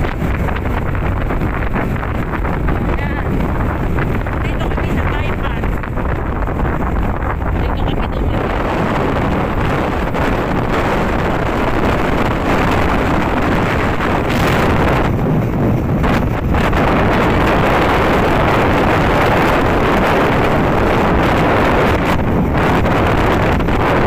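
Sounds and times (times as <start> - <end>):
motorcycle engine rumble: 0.0 - 24.0
wind rushing over microphone: 0.0 - 24.0.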